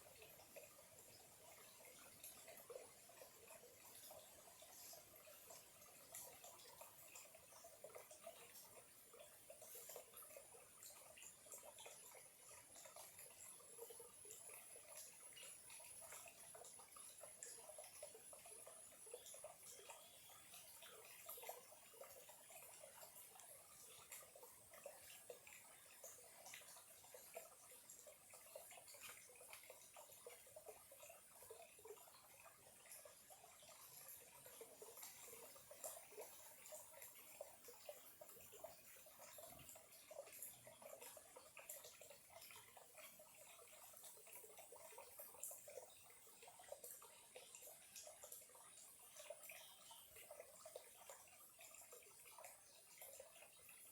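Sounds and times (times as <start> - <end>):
stream trickling: 0.0 - 53.9.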